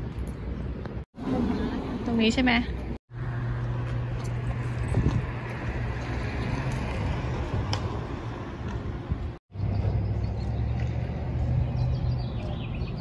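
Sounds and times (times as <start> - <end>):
street noise: 0.0 - 13.0
vehicle engine humming: 0.7 - 13.0.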